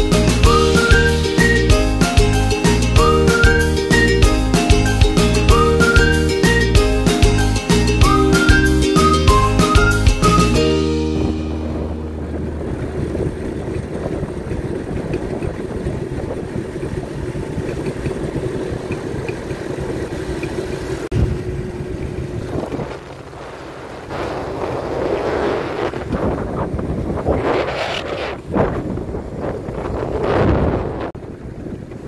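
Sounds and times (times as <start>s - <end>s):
motorcycle engine running: 0.0s - 32.0s
wind and road noise: 0.0s - 32.0s.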